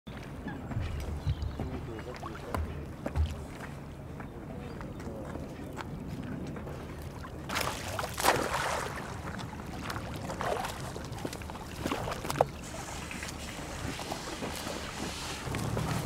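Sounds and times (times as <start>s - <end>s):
water splashing and sloshing: 0.1s - 4.0s, 5.3s - 16.0s.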